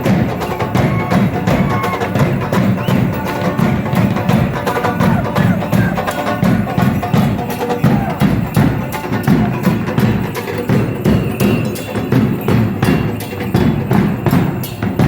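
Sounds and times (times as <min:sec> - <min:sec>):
drum beating fast rhythm: 0:00.0 - 0:15.0.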